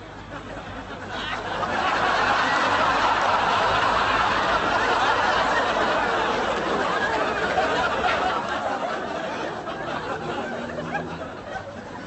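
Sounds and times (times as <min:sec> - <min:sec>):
audience laughter: 0:00.0 - 0:12.0.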